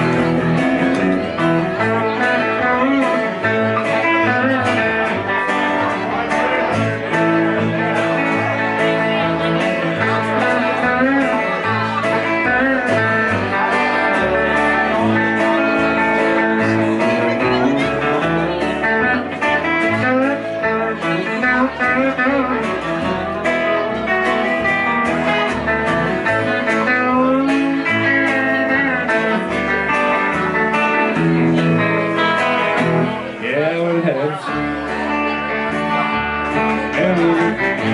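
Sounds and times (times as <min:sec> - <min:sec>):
electric guitar bending notes: 0:00.0 - 0:37.9
plucked upright bass: 0:00.0 - 0:37.9
second guitar: 0:00.0 - 0:37.9.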